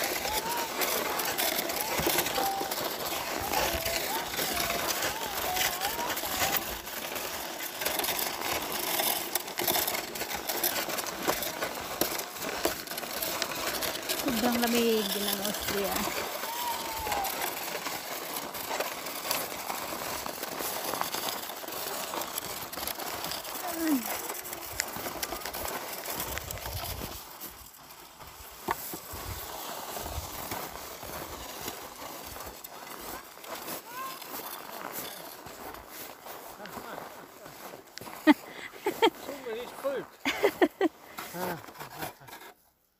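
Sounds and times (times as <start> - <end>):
footsteps crunching on snow: 0.0 - 42.3.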